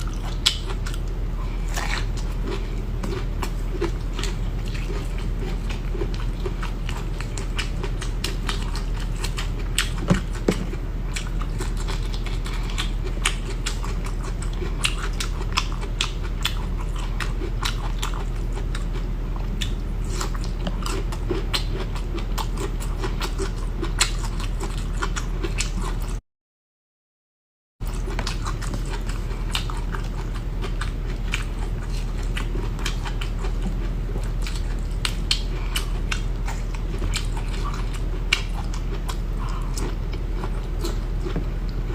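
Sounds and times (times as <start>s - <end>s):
person chewing crunchy food: 0.0s - 26.2s, 27.8s - 41.9s
steady low hum: 0.0s - 26.2s, 27.8s - 41.9s.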